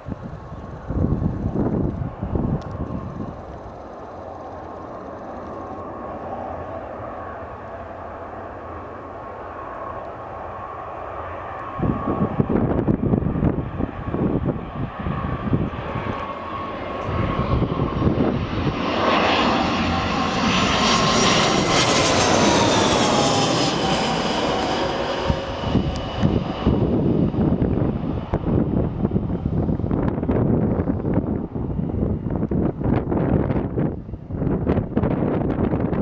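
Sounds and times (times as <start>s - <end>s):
wind rumbling on microphone: 0.0s - 7.8s, 11.5s - 36.0s
jet engines whining: 0.0s - 36.0s.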